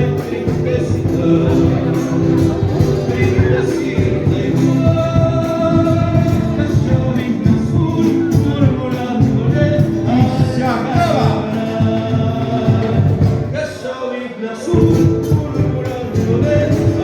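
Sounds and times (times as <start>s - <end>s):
folk song over sound system: 0.0s - 17.0s.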